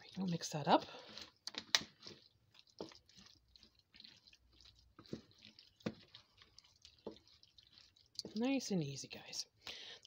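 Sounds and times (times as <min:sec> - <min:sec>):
spoon stirring wet mixture: 0:00.0 - 0:10.0.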